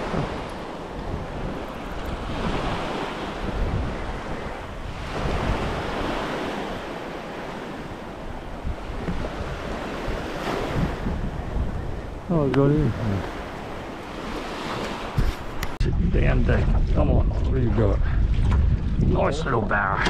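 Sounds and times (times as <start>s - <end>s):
small waves washing onto beach: 0.0s - 19.7s
wind buffeting microphone: 0.0s - 20.0s.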